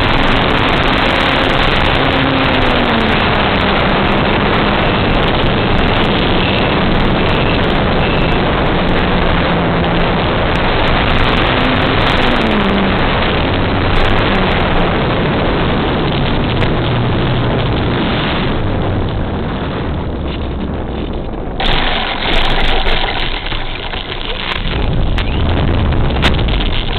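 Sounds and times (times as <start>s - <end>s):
model airplane motor and propeller: 0.0s - 26.9s
wind rush over microphone: 0.0s - 26.9s.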